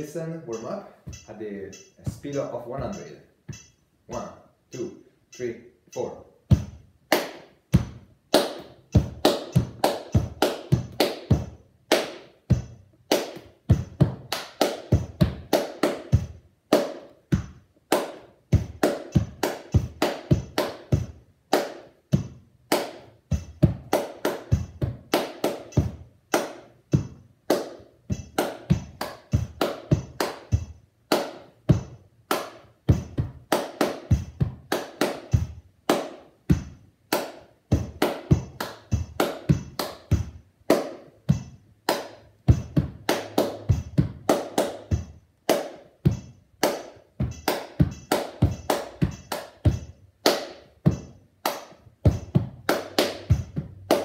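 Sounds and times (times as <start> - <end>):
rhythmic hand claps: 0.0 - 54.0.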